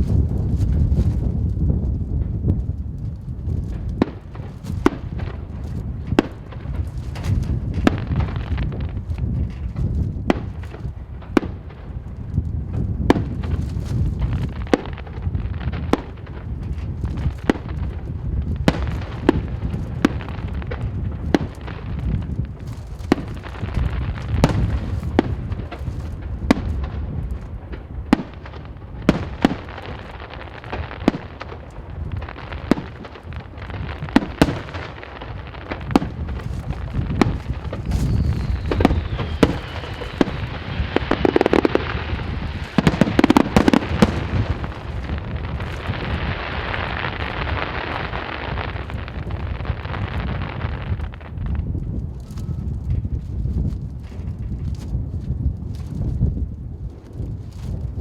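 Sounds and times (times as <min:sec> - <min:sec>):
low rumble of booms: 0:00.0 - 0:58.0
fireworks sharp bangs: 0:03.3 - 0:51.6.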